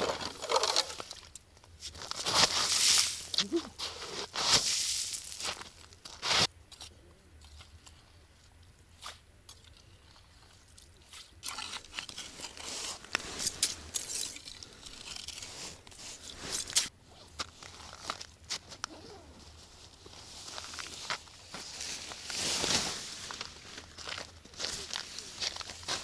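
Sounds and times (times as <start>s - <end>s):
crunching on ice and snow: 0.0s - 8.1s, 9.0s - 26.0s.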